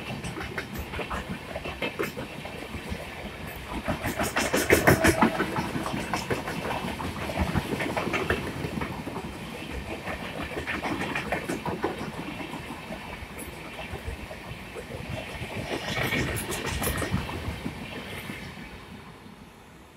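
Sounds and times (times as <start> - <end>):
wheels rushing on rail: 0.0 - 19.9.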